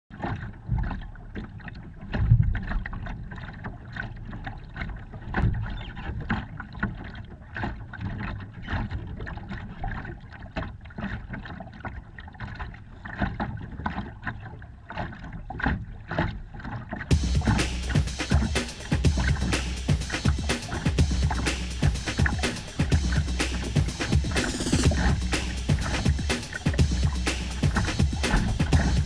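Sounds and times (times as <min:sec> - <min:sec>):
water splashing against boat bow: 0:00.1 - 0:29.0.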